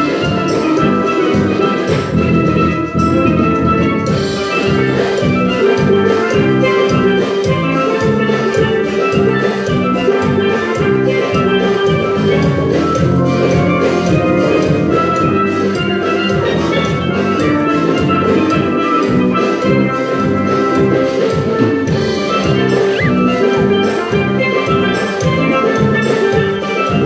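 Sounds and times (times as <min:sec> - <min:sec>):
steel drum band playing: 0:00.0 - 0:27.0.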